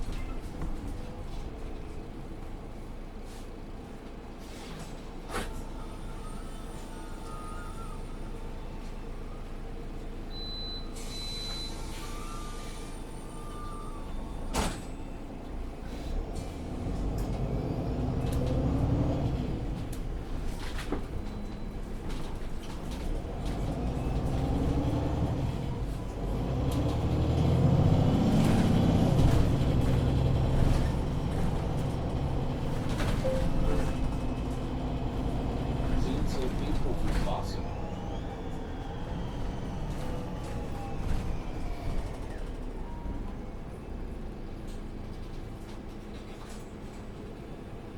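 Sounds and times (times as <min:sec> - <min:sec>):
bus engine running: 0:00.0 - 0:47.9.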